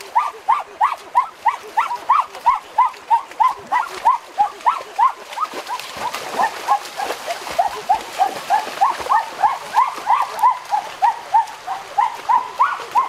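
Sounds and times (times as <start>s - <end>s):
water splashing: 0.0s - 13.0s.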